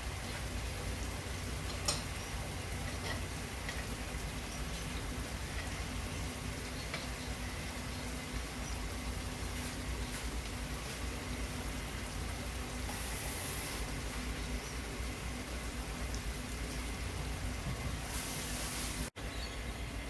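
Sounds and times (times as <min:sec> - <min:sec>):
masala sizzling and bubbling: 0:00.0 - 0:19.2.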